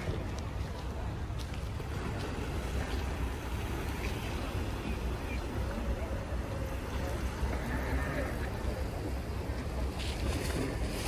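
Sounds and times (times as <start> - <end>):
steady low rumble: 0.0 - 11.0
water lapping against seawall: 0.0 - 11.0.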